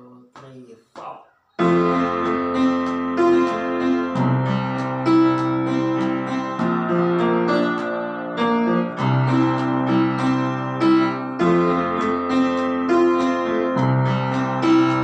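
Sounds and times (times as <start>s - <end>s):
piano playing chords: 1.6s - 15.0s.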